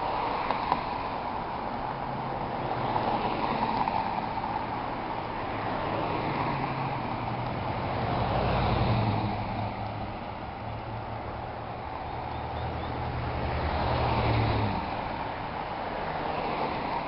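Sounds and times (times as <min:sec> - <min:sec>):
road traffic with cars passing: 0:00.0 - 0:17.0
low engine hum: 0:01.8 - 0:16.0.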